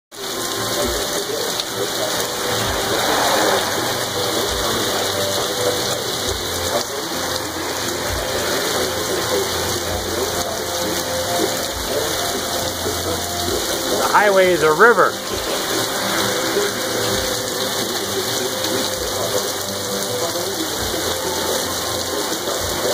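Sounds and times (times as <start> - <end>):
heavy rain on pavement: 0.1 - 22.9.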